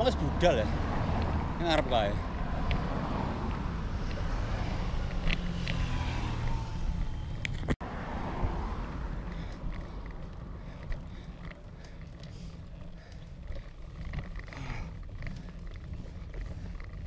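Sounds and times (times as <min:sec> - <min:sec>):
road and bicycle noise: 0:00.0 - 0:17.0
wind rumbling on microphone: 0:00.7 - 0:17.0.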